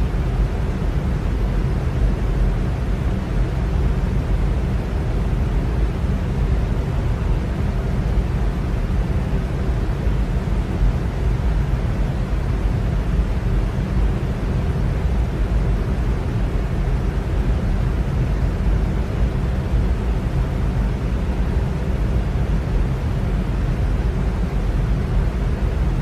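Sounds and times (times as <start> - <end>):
electric fan running: 0.0 - 26.0
faint steady hum: 0.0 - 26.0.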